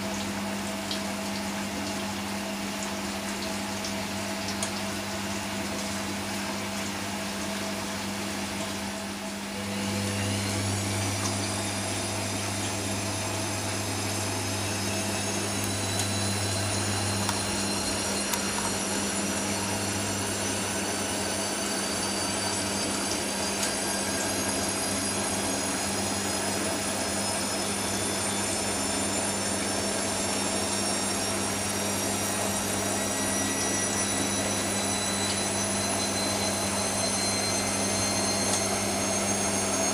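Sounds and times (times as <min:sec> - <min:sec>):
washing machine motor whine rising: 0:00.0 - 0:39.9.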